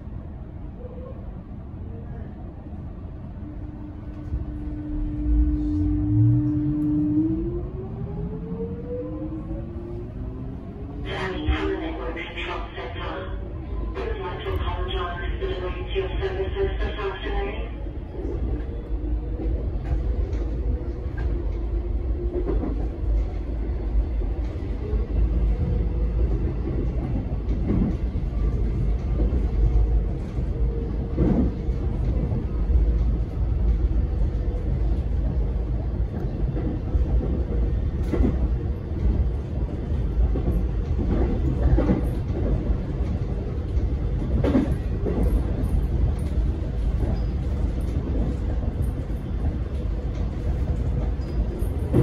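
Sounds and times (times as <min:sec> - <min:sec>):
train rumble heard on board: 0:00.0 - 0:52.0.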